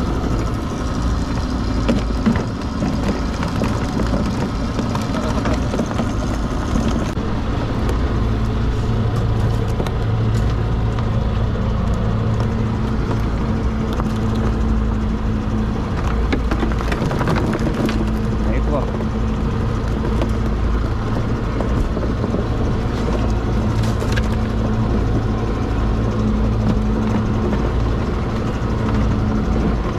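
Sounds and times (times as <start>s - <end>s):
boat engine and machinery droning: 0.0s - 29.9s.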